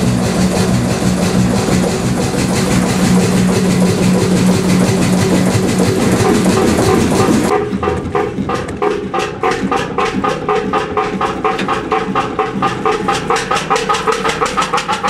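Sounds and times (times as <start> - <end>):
diesel engine running: 0.0 - 15.0
exhaust puffing: 0.0 - 15.0.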